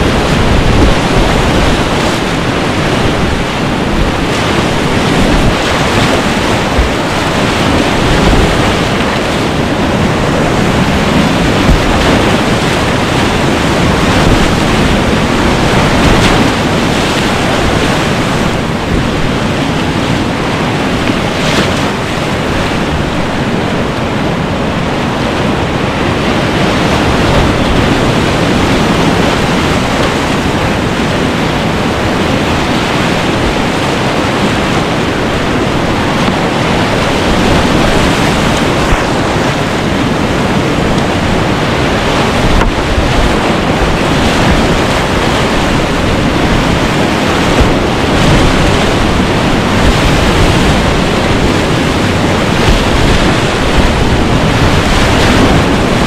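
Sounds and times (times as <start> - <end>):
whitewater rapids rushing: 0.0 - 56.0.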